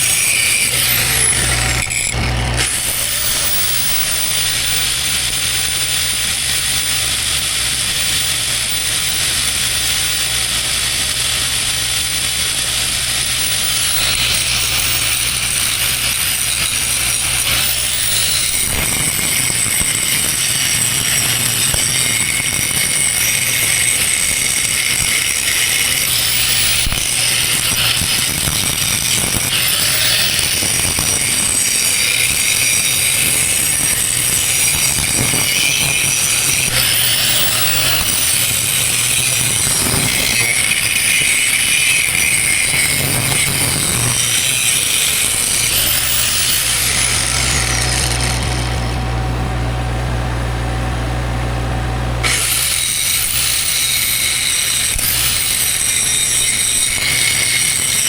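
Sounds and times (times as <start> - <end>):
angle grinder grinding steel: 0.0 - 58.0.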